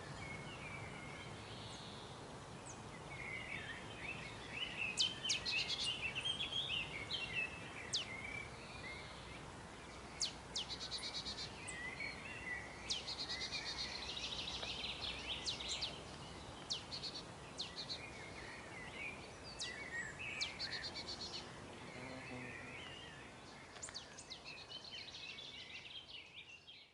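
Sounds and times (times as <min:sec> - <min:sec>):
songbirds singing and calling: 0:00.0 - 0:26.9.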